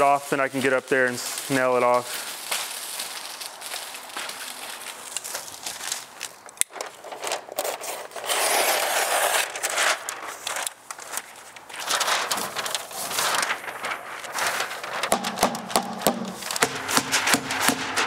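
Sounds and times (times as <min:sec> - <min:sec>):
house wrap crinkling and rustling: 0:00.0 - 0:18.0.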